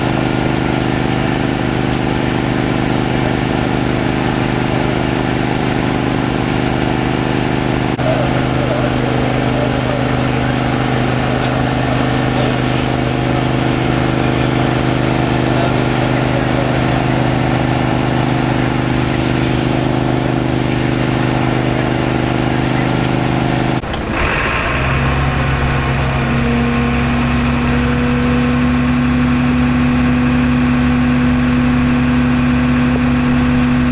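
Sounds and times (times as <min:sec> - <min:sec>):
engine drone: 0:00.0 - 0:33.9
engine idling: 0:00.0 - 0:33.9.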